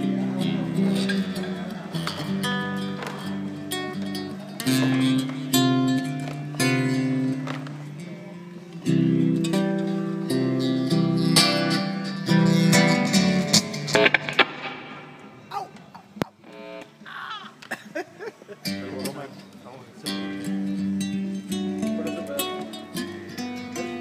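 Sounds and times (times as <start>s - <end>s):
acoustic guitar strumming chords: 0.0s - 15.5s, 18.6s - 24.0s.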